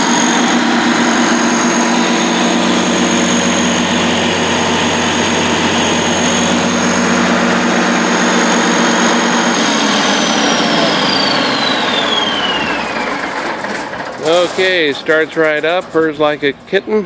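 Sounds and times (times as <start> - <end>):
high whine: 0.0 - 16.7
diesel generator running: 0.0 - 17.0.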